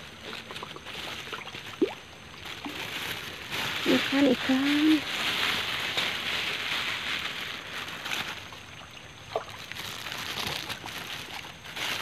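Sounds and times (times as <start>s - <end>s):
water splashing in pond: 0.0s - 12.0s.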